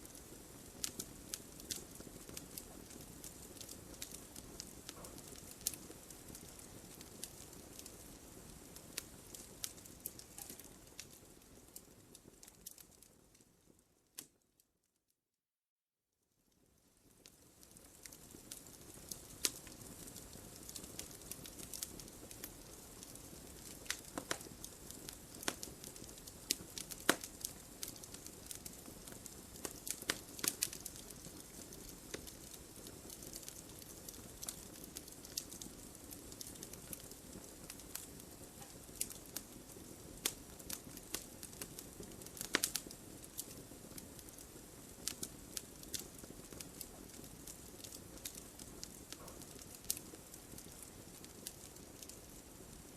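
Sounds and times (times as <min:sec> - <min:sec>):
wood fire crackling: 0:00.0 - 0:14.5, 0:16.6 - 0:52.9.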